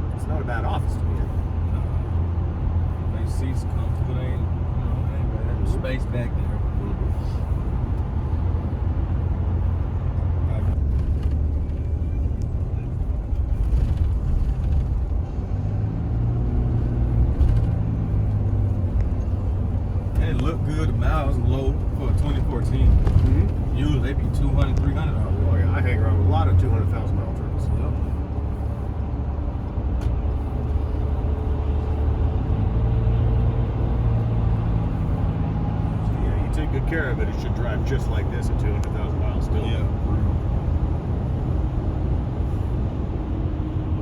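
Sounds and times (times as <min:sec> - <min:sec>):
constant hum: 0:00.0 - 0:44.0
engine and road rumble: 0:00.0 - 0:44.0.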